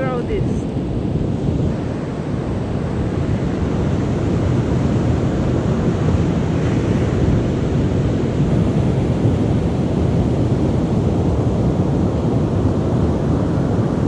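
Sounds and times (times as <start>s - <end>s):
heavy ocean surf: 0.0s - 14.0s
wind buffeting microphone: 0.0s - 14.0s.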